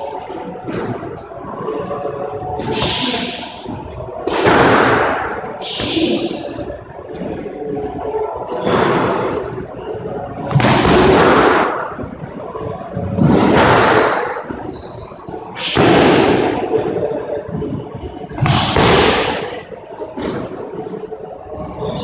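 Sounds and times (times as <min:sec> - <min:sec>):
echo off bare walls: 0:00.0 - 0:22.0.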